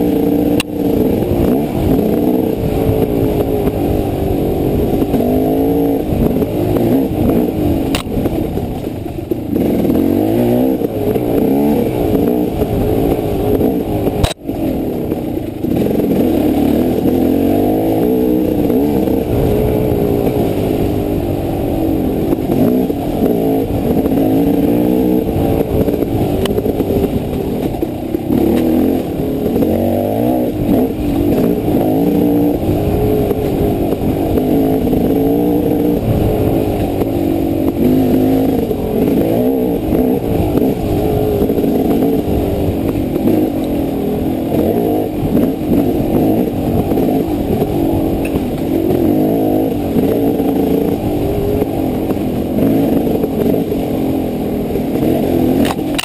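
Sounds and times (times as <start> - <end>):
muffled dirt bike engine revving: 0.0 - 56.0.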